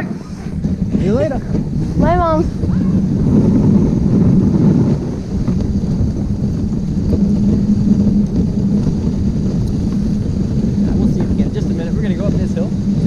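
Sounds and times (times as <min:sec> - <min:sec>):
sled rumbling over snow: 0:00.0 - 0:13.0
wind buffeting microphone: 0:00.0 - 0:13.0.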